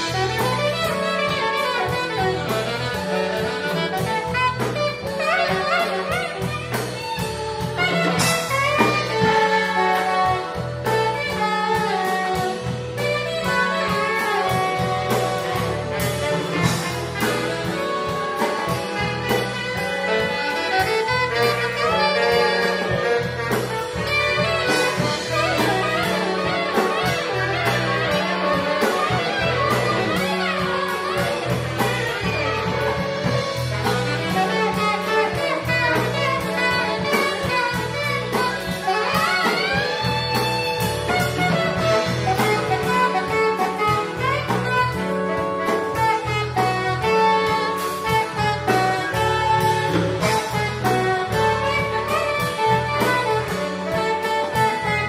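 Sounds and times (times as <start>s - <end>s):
bass: 0.0s - 55.0s
drum kit: 0.0s - 55.0s
electric guitars: 0.0s - 55.0s
saxophones playing melody: 0.0s - 55.0s.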